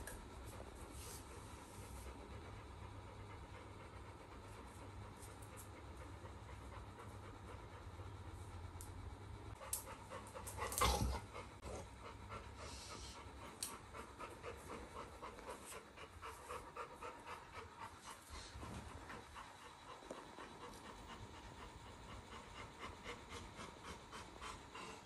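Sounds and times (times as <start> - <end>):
dog panting: 0.1 - 8.7, 9.5 - 25.0.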